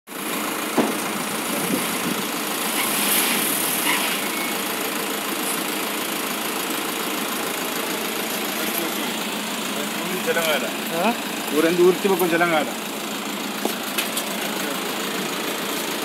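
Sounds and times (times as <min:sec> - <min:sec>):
truck engine running: 0:00.1 - 0:16.0.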